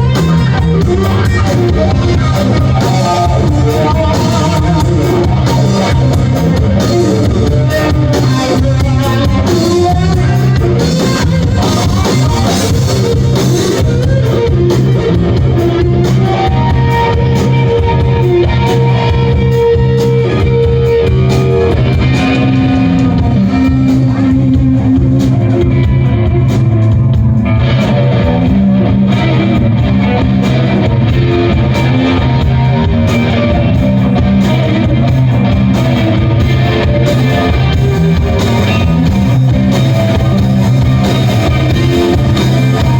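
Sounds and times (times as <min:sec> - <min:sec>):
electric guitar: 0:00.0 - 0:42.9
live rock band: 0:00.0 - 0:42.9.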